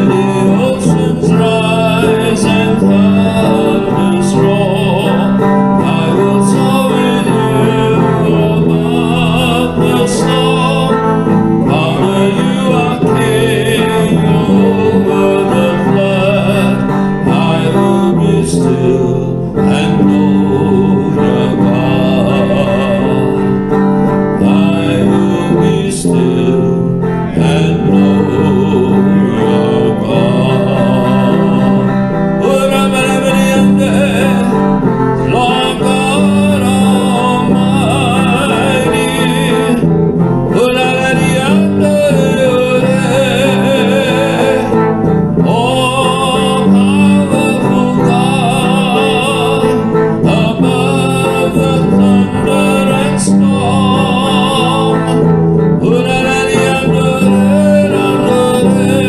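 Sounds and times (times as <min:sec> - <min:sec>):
clean electric guitar: 0:00.0 - 0:59.0
man singing worship song: 0:00.0 - 0:59.0.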